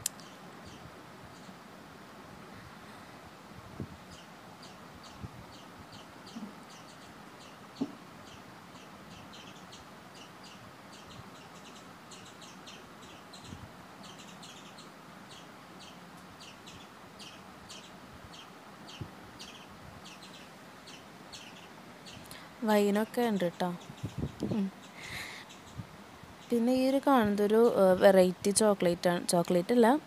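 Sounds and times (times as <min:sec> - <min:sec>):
steady low hiss: 0:00.0 - 0:30.0.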